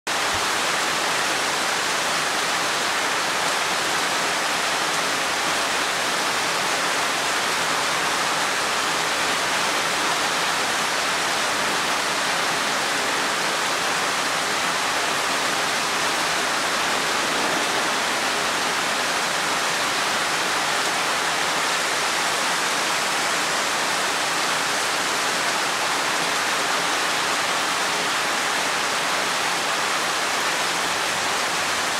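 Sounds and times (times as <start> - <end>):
steady rain hiss: 0.1 - 31.9.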